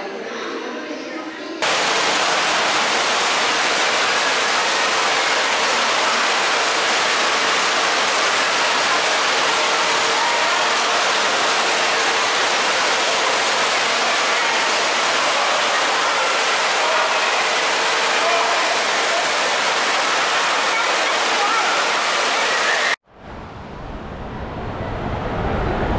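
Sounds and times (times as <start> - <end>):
flowing and falling water: 1.6 - 23.0.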